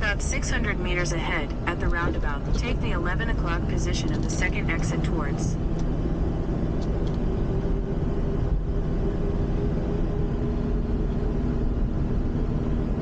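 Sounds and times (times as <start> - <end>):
car engine and road noise: 0.0 - 13.0
faint engine tone: 0.0 - 13.0.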